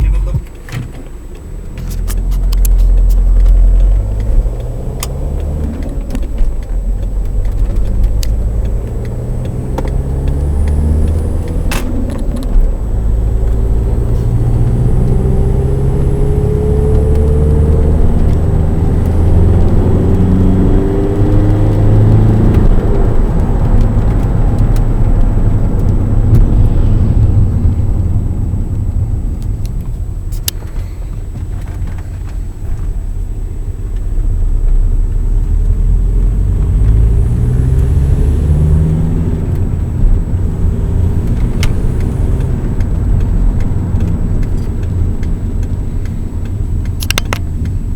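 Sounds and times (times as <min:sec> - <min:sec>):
diesel engine accelerating: 0:00.0 - 0:47.9.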